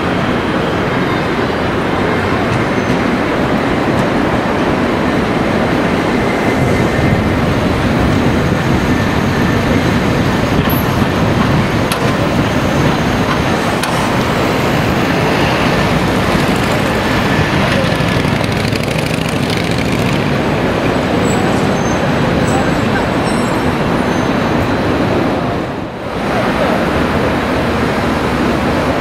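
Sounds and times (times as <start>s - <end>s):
road traffic noise: 0.0s - 29.0s
tram running on street track: 0.0s - 29.0s.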